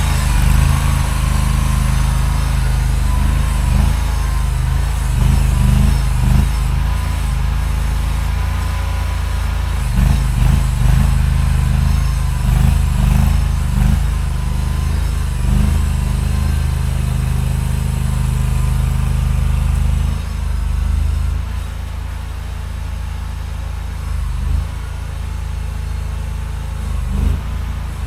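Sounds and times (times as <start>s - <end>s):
skid steer engine running: 0.0s - 28.0s.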